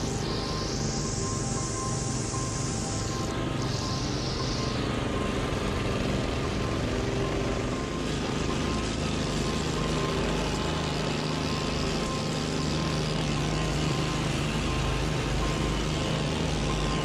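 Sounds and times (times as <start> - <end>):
small petrol engine running: 0.0 - 17.0
string trimmer: 0.0 - 17.0.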